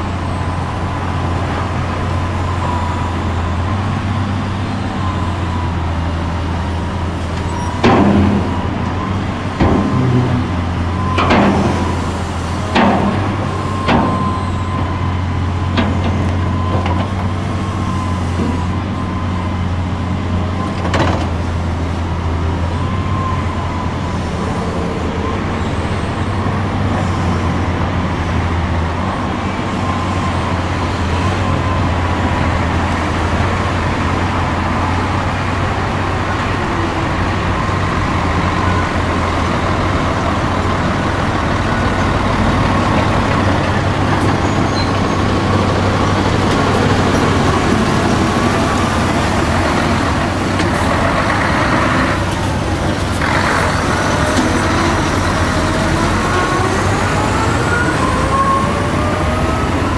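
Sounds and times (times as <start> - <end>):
truck diesel engine driving: 0.0 - 59.9.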